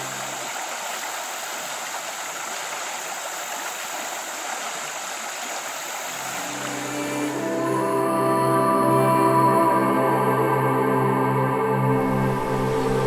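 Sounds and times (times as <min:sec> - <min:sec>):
stream rushing over rapids: 0:00.0 - 0:13.0.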